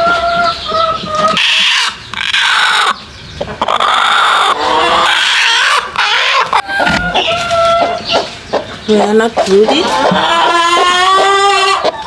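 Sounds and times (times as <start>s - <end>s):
hens squawking loudly: 0.0s - 12.0s.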